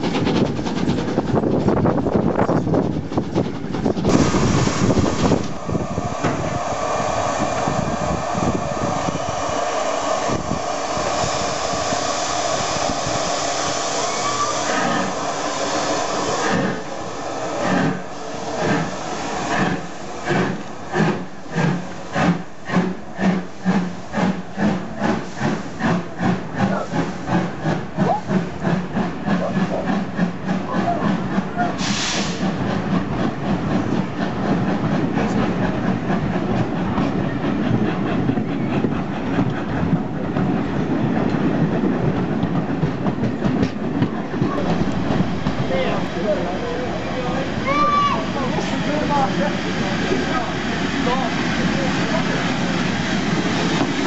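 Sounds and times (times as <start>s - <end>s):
steam hissing: 0.0s - 41.0s, 44.3s - 54.0s
steam locomotive chuffing: 0.0s - 54.0s.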